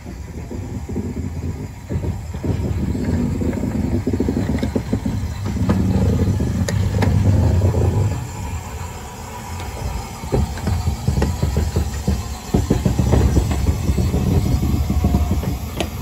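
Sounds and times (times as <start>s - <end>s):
rapid knocking: 0.0s - 16.0s
train rumbling past: 0.0s - 16.0s.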